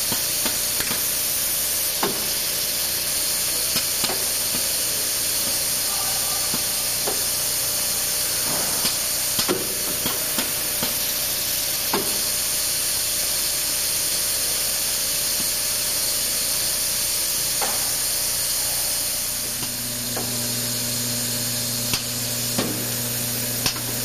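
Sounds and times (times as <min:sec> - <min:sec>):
machine hissing: 0:00.0 - 0:24.0.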